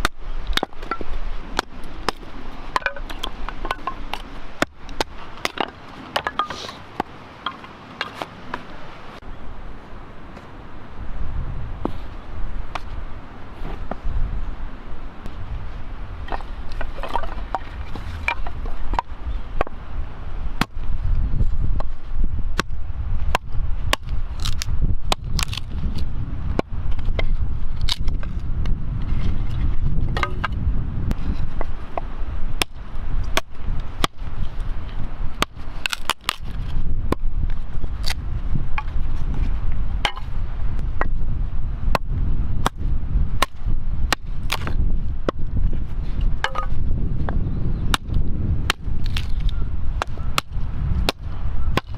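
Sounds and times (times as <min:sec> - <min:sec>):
steady low rumble: 0:08.4 - 0:51.9.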